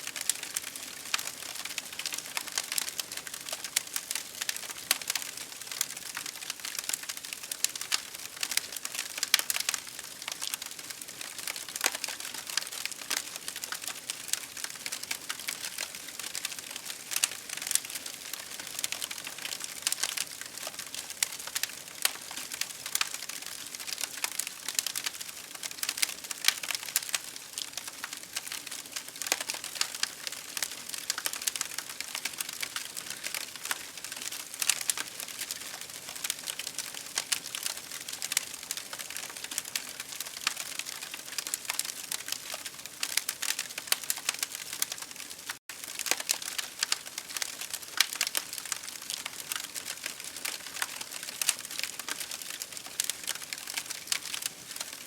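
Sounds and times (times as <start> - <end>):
campfire crackling: 0.1 - 55.0.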